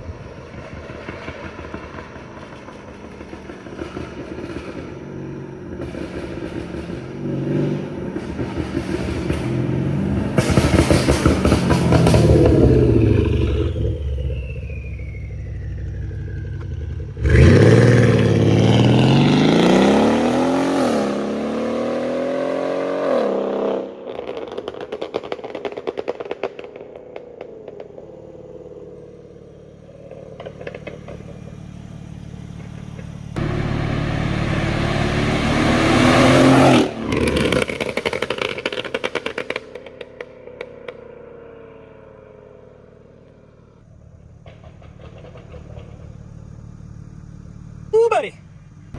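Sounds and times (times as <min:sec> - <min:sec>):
exhaust crackles and pops: 0:00.0 - 0:21.3, 0:23.6 - 0:41.3, 0:42.8 - 0:48.9
car engine accelerating hard: 0:00.1 - 0:25.6, 0:27.8 - 0:48.9.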